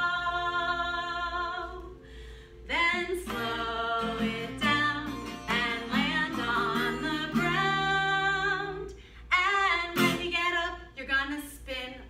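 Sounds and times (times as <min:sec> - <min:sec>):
woman singing: 0:00.0 - 0:02.0, 0:02.6 - 0:12.0
acoustic guitar: 0:00.0 - 0:11.6.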